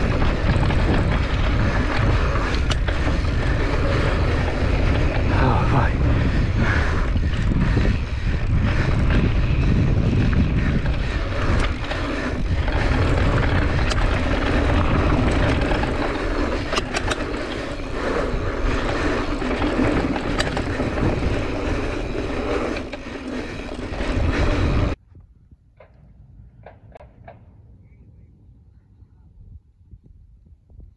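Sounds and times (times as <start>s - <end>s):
bike rattling clicks: 0.0s - 25.0s
bike tyres rumbling over dirt: 0.0s - 25.0s
wind buffeting microphone: 0.0s - 30.9s.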